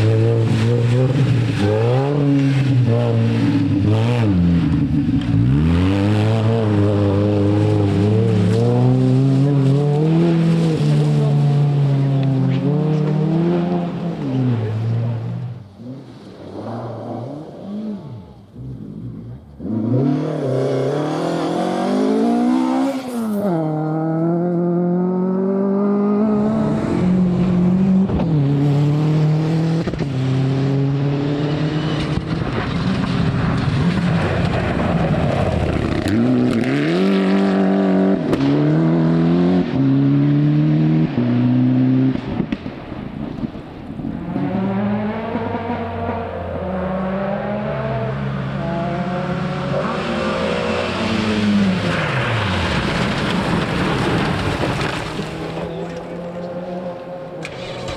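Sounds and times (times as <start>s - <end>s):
rally car engine at full throttle: 0.0s - 57.9s.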